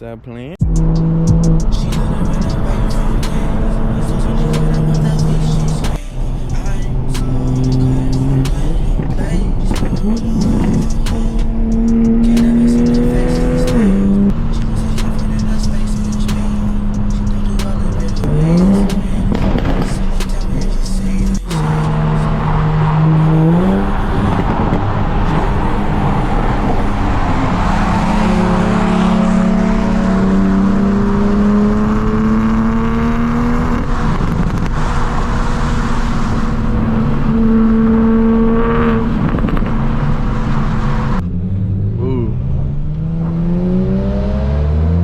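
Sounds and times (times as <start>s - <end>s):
car engines revving: 0.0s - 45.0s.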